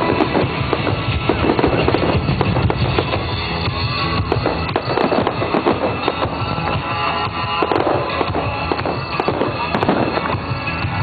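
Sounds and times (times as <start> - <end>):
fireworks bursting and crackling: 0.0 - 11.0
loud music: 0.0 - 11.0.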